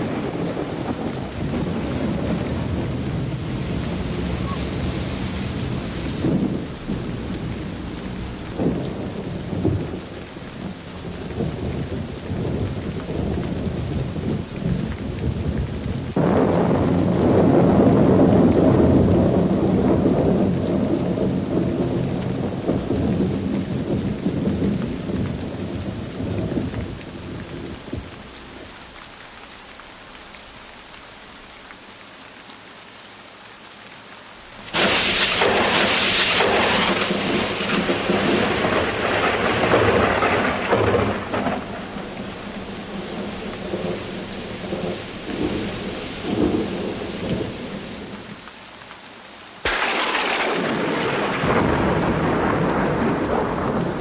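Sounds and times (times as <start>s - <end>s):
sharp thunderclap: 0.0s - 28.2s, 34.6s - 48.2s, 49.6s - 54.0s
rolling thunder: 0.0s - 28.6s, 34.6s - 48.4s, 49.6s - 54.0s
steady rain: 0.0s - 54.0s.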